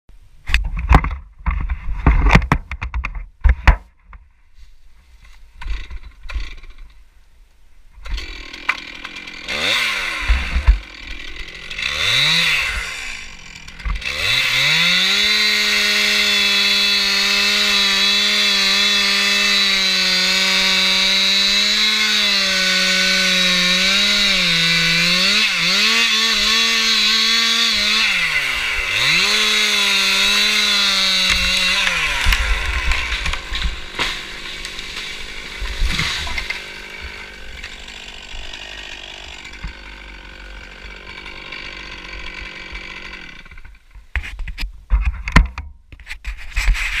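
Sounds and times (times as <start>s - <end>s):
chainsaw cutting wood: 5.2s - 7.0s, 8.0s - 47.0s.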